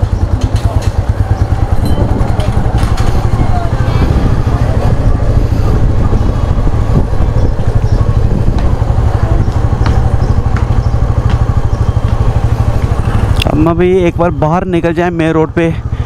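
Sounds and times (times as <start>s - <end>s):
motorcycle engine rumbling: 0.0s - 16.0s
street traffic: 0.0s - 16.0s.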